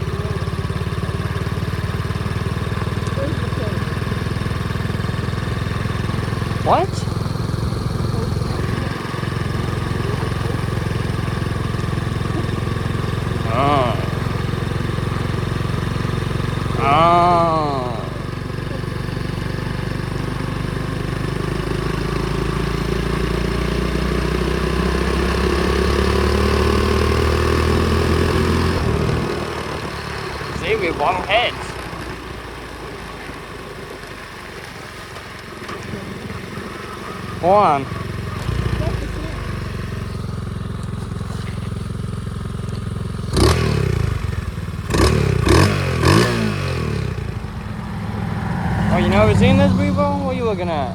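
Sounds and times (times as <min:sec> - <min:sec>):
motorbike engine running: 0:00.0 - 0:50.9.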